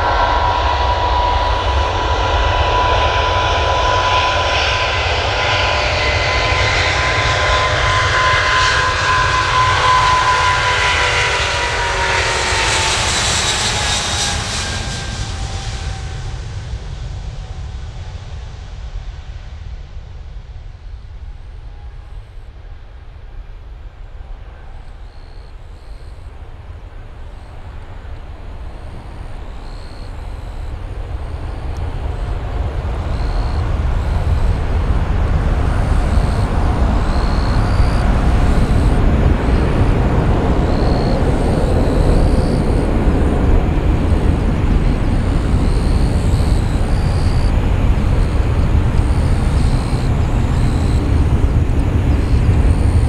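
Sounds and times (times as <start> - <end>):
jet engines deep rumbling: 0.0 - 53.0.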